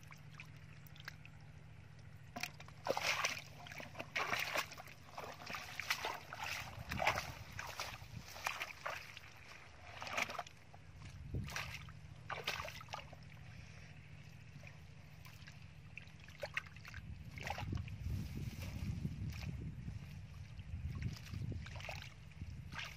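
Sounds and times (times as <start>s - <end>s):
small splashes: 0.0s - 1.4s, 2.3s - 18.0s, 20.5s - 22.9s
squelches in muddy water: 0.0s - 22.9s
steady low rumble: 0.0s - 22.9s.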